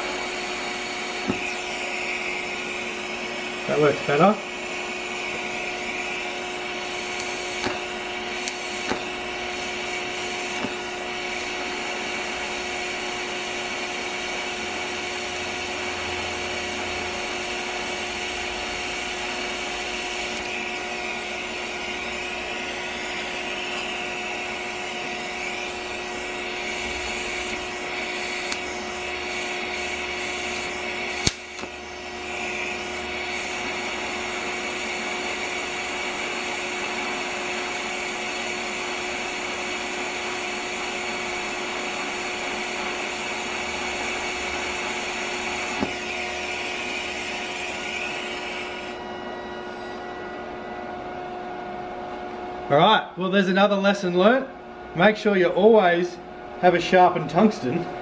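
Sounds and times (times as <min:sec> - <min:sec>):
welding arc hiss and buzz: 0:00.0 - 0:49.0.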